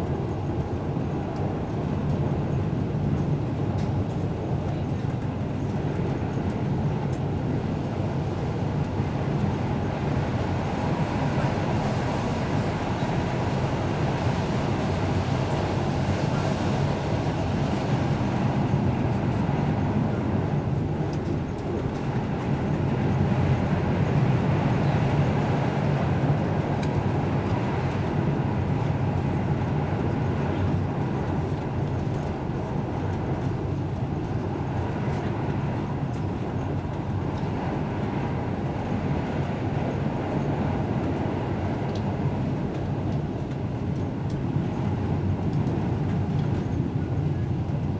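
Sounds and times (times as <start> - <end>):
train rumble inside carriage: 0.0 - 47.9.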